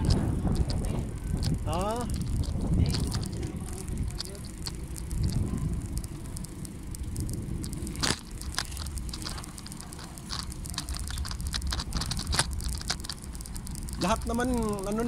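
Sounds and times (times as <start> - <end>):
bicycle clicks and rattles: 0.0 - 15.0
road noise: 0.0 - 15.0
wind rumble on microphone: 0.0 - 15.0.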